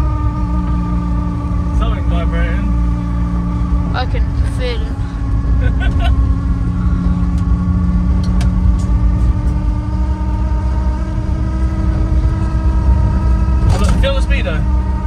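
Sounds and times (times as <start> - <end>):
car engine and road rumble: 0.0 - 15.0
speedometer cable whining: 0.0 - 15.0.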